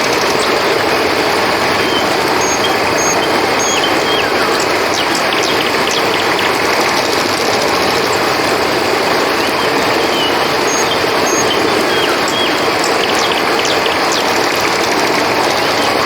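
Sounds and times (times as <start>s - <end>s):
crickets calling: 0.0s - 16.0s
river rushing: 0.0s - 16.0s.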